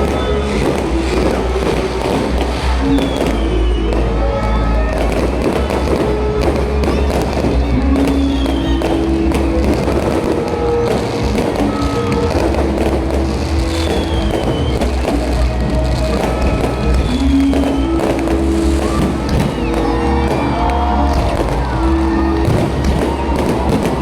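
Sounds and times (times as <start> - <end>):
fireworks crackling and popping: 0.0 - 24.0
loud music playing: 0.0 - 24.0.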